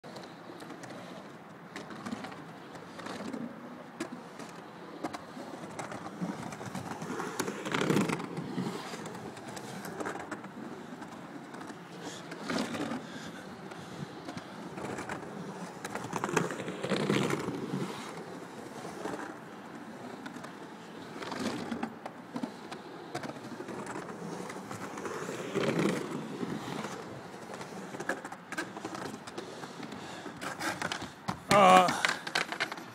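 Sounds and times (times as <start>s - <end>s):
skateboard wheels rolling: 0.0s - 32.9s
skateboard clicks: 0.1s - 32.9s.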